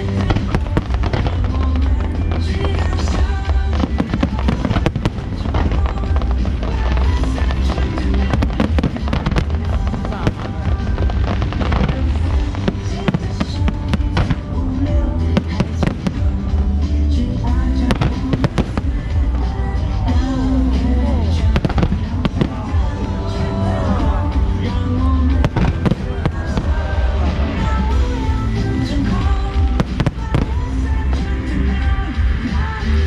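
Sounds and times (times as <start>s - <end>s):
fireworks bangs and crackles: 0.0s - 33.0s
low rumble: 0.0s - 33.0s
music over loudspeakers: 0.0s - 33.0s.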